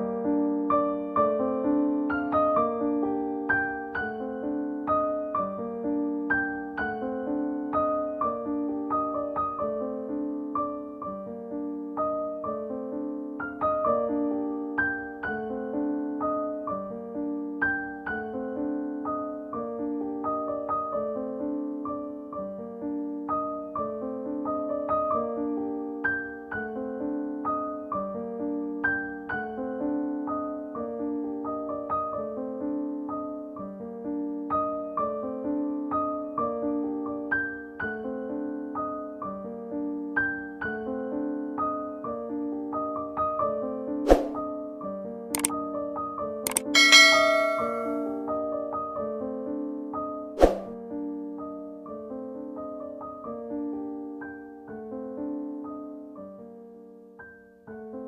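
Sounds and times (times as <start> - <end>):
soft piano melody: 0.0 - 58.0.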